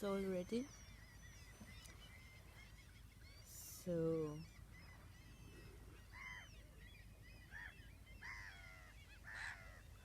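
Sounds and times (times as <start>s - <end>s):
distant waterbirds honking: 0.0s - 10.0s.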